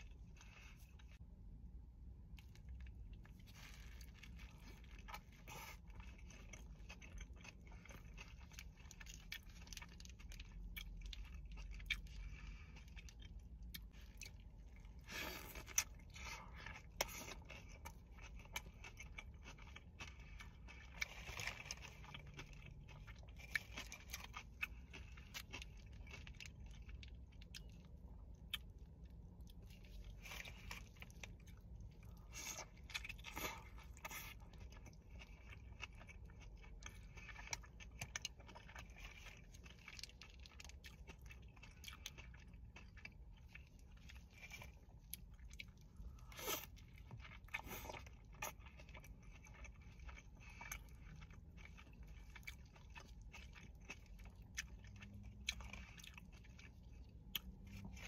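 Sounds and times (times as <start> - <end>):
wet chewing and lip smacks: 2.2 - 58.0.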